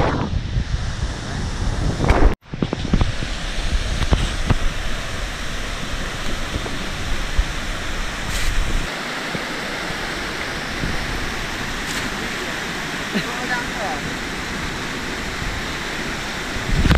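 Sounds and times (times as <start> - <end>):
wind on microphone: 0.0 - 13.1, 13.9 - 16.9
river rushing over rocks: 2.5 - 16.9.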